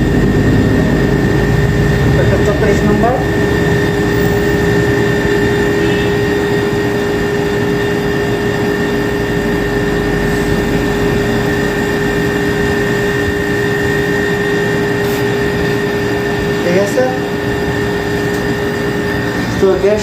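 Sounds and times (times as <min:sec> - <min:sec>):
refrigerator compressor and fan whirring: 0:00.0 - 0:20.0.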